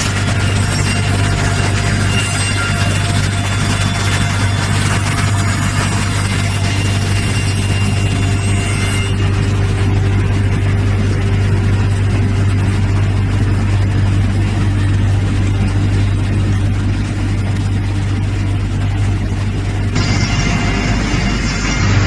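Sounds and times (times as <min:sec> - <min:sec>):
wood moulder machine drone: 0:00.0 - 0:22.0.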